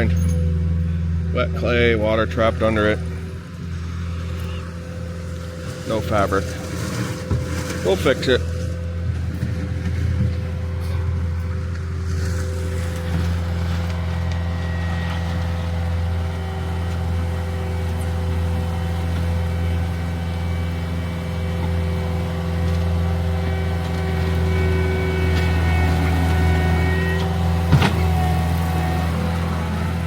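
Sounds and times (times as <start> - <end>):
heavy equipment engine running: 0.0 - 30.0.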